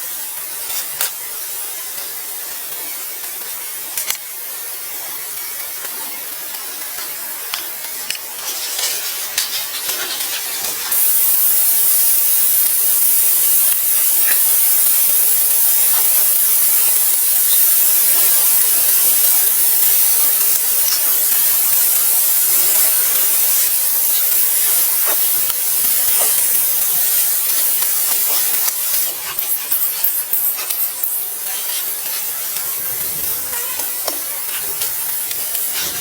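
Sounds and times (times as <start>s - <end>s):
steady high hiss: 0.0s - 36.0s
faint scattered ticks: 0.4s - 36.0s.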